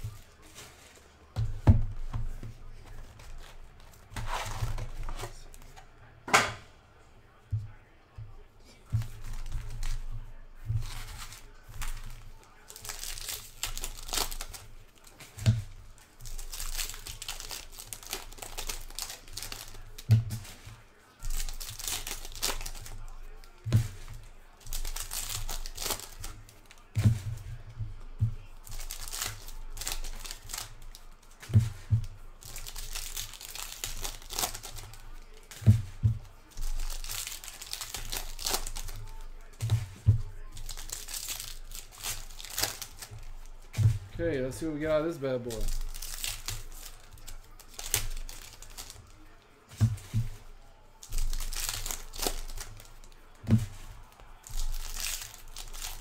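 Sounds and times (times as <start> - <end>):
foil wrappers crinkling and tearing: 0.0 - 5.9, 8.7 - 56.0.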